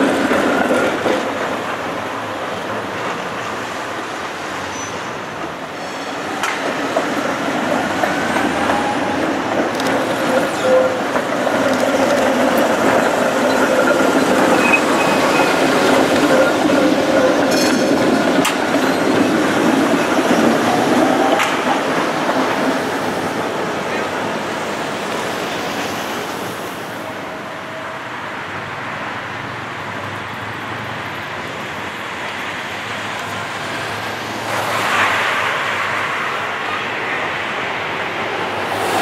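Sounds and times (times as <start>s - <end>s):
street traffic: 0.0s - 39.0s
tram wheels rolling on rails: 0.0s - 39.0s.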